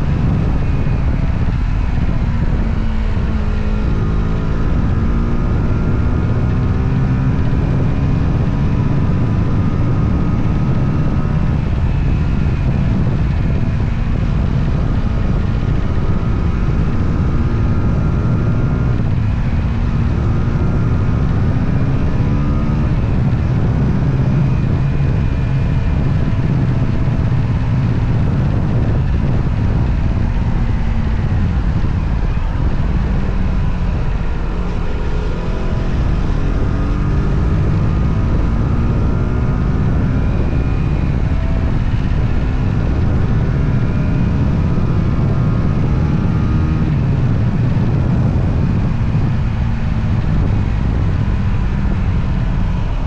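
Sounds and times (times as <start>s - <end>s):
motorcycle engine revving: 0.0s - 53.0s
wind and road noise: 0.0s - 53.0s.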